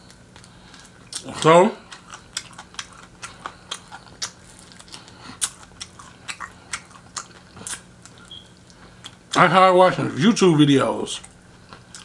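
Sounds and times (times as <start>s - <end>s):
person chewing crunchy food: 0.0s - 9.4s, 11.2s - 12.0s.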